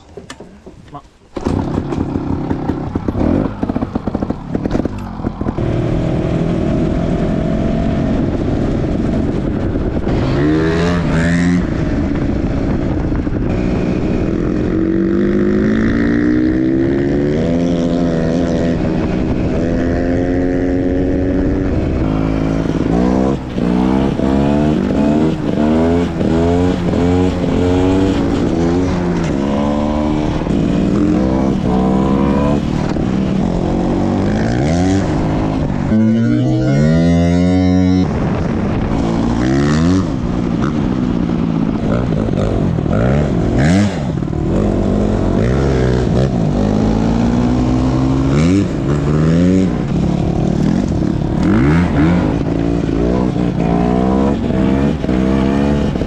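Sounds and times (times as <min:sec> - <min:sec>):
dirt bike engine revving: 0:01.4 - 0:08.4, 0:09.2 - 0:56.0.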